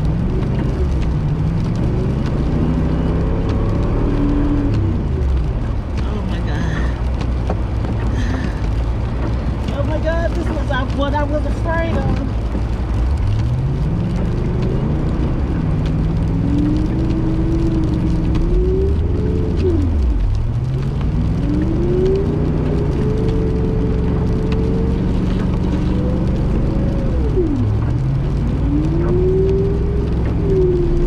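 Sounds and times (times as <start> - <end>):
tires spinning: 0.0 - 31.0.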